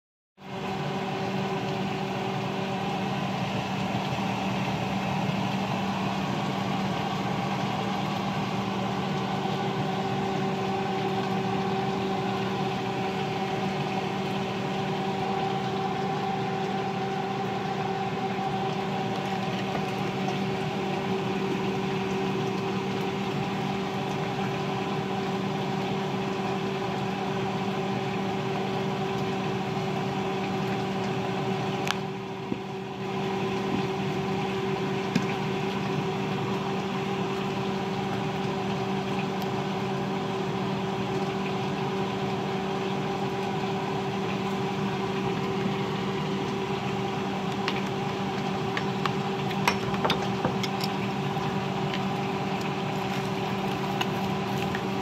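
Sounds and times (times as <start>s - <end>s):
motor humming: 0.5s - 55.0s.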